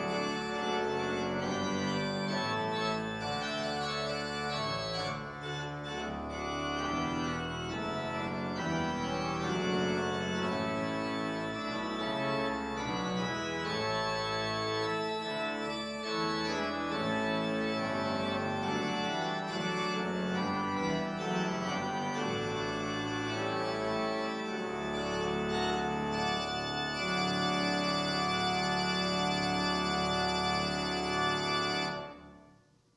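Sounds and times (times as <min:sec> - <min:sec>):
organ playing chords: 0:00.0 - 0:32.5.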